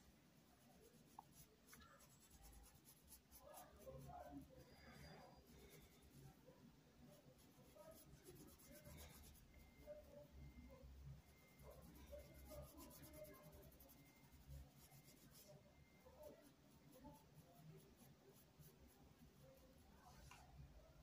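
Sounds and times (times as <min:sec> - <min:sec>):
paintbrush scratching on fabric: 0:00.0 - 0:20.5.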